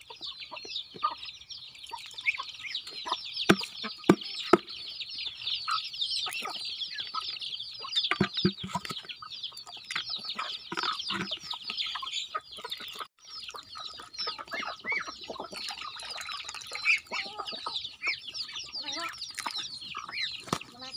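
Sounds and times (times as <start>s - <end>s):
chickens clucking: 0.0s - 20.9s
chicks cheeping: 0.0s - 20.9s.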